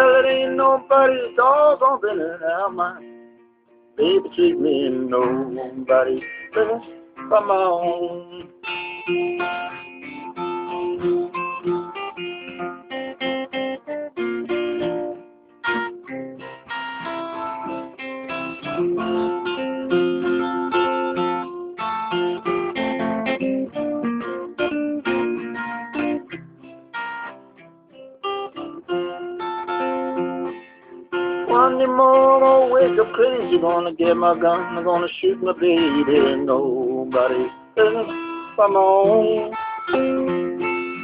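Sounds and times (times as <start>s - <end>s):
acoustic blues guitar: 0.0s - 41.0s.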